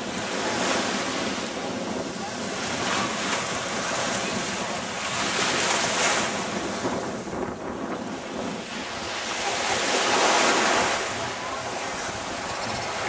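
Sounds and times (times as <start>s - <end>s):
small waves washing onto shore: 0.0s - 13.0s
wind buffeting microphone: 0.0s - 13.0s.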